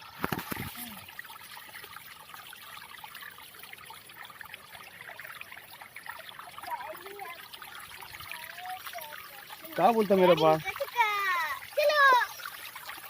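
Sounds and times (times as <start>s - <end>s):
waterfall splashing and trickling: 0.0s - 13.0s.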